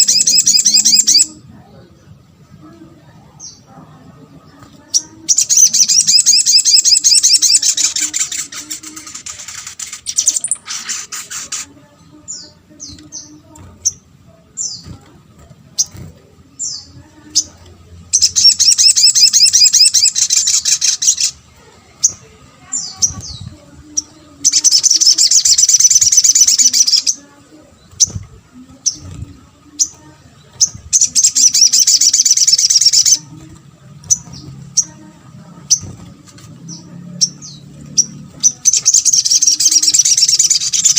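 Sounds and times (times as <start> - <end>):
bird twittering: 0.0 - 1.4, 4.8 - 15.0, 15.8 - 21.4, 22.0 - 27.2, 27.8 - 40.9
high bird chirps: 0.0 - 1.4, 4.8 - 15.0, 15.8 - 21.4, 22.0 - 27.2, 27.8 - 33.4, 34.0 - 35.0, 35.6 - 40.9.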